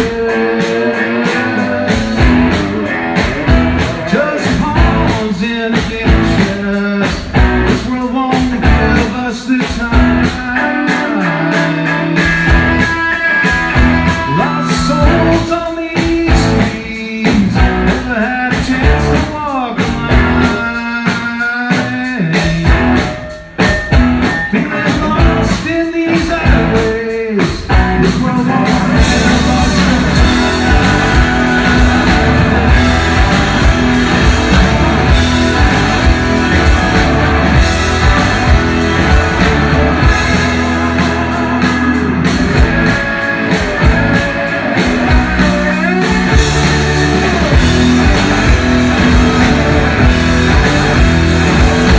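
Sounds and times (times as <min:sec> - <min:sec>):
man singing lead: 0:00.0 - 0:23.3, 0:24.2 - 0:51.9
rock band playing live: 0:00.0 - 0:51.9.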